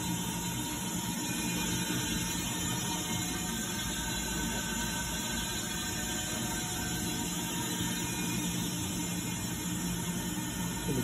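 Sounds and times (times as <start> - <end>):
faint high whine: 0.0 - 11.0
machine mechanical hum: 0.0 - 11.0.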